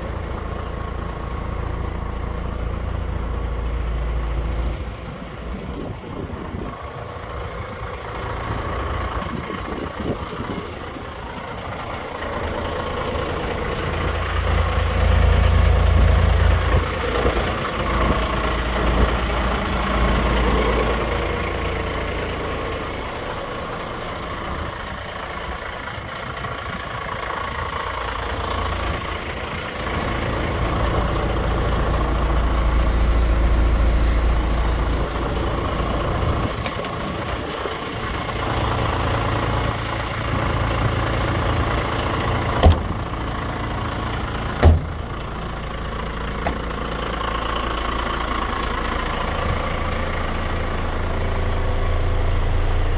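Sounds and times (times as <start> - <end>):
diesel truck engine running: 0.0 - 52.9
reversing alarm beeping: 6.2 - 26.3, 27.2 - 52.9.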